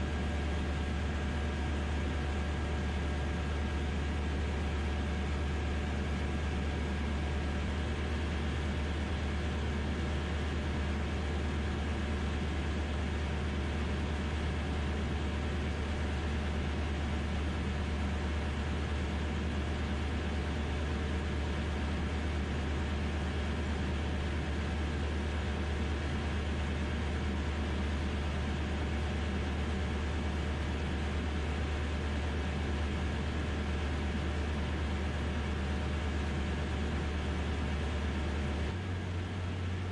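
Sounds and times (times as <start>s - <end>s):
aircraft engine and propeller droning: 0.0s - 39.7s.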